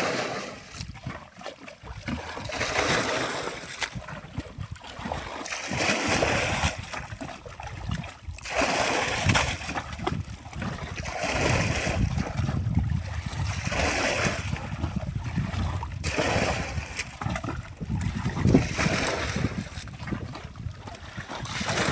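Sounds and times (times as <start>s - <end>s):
water splashing and sloshing: 0.0s - 21.9s.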